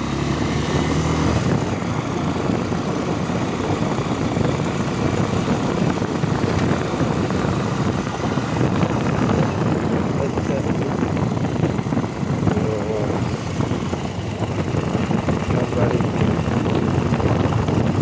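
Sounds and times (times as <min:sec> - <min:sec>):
motorcycle engine running: 0:00.0 - 0:18.0
rush of noise: 0:00.0 - 0:18.0.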